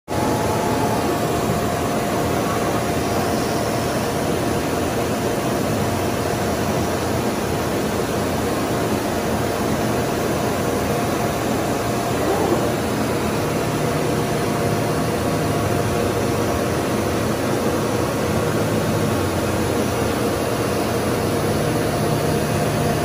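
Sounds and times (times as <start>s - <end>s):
faint steady whine: 0.1s - 23.0s
industrial machinery running: 0.1s - 23.0s.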